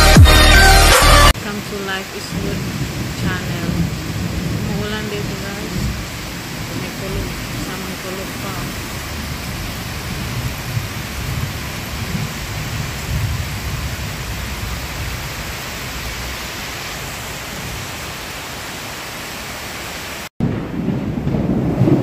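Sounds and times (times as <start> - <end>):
heavy rain on lawn and foliage: 1.2 - 22.0
rolling thunder rumble: 1.4 - 18.6, 20.4 - 22.0.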